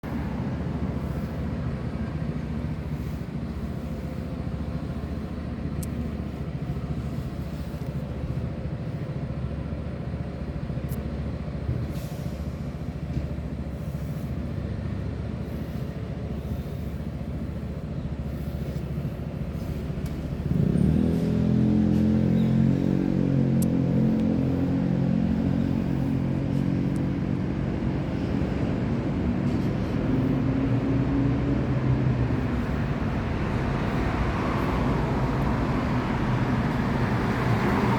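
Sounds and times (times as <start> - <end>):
low engine hum: 0.0 - 37.9.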